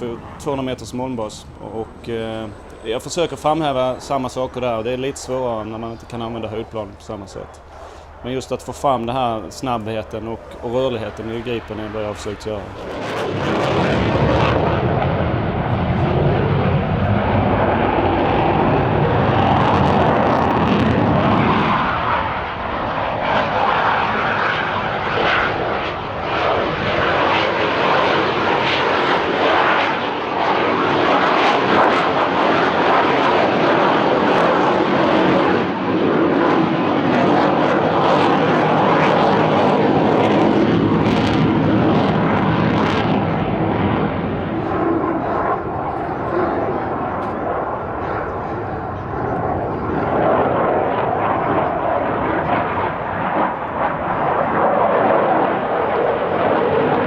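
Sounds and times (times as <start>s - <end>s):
fighter jet flying past: 0.0s - 57.0s.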